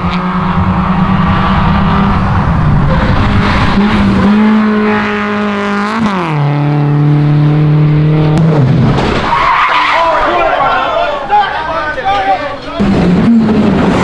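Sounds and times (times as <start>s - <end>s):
rally car engine passing by: 0.0s - 10.8s, 12.3s - 14.0s.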